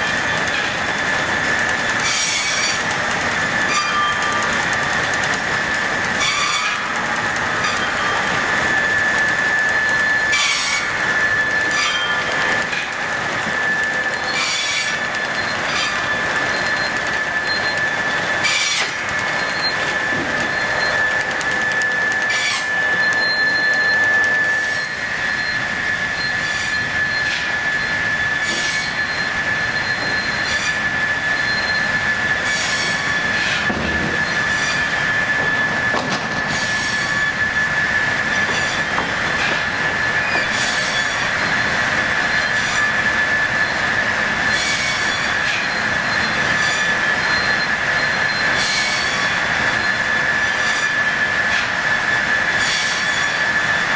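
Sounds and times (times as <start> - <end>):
sawmill machinery squealing: 0.0 - 53.9.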